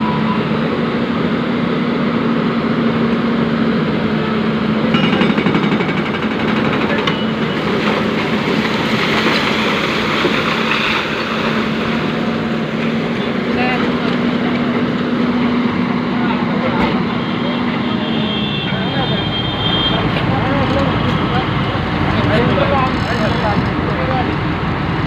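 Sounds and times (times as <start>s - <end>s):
excavator diesel engine under load: 0.0s - 18.1s, 19.6s - 25.0s.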